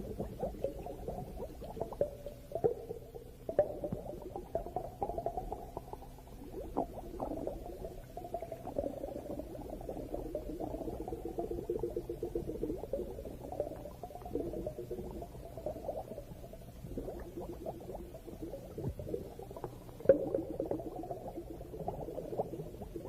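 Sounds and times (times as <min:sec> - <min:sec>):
faint steady hum: 0:00.0 - 0:23.0
underwater bubbling and crackling: 0:00.0 - 0:23.0.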